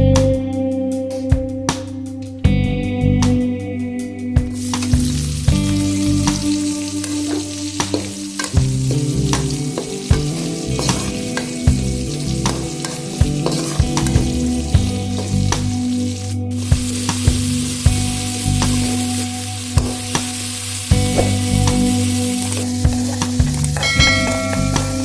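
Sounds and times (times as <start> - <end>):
background music: 0.0 - 25.0
food sizzling in oil: 4.6 - 25.0.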